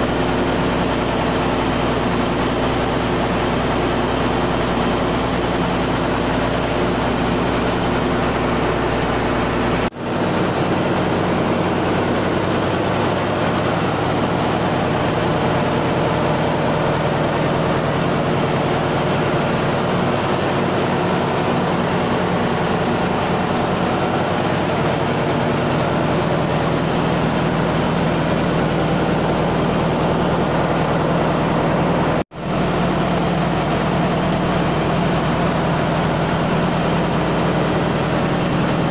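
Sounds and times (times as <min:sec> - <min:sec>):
engine-room machinery droning: 0:00.0 - 0:38.9.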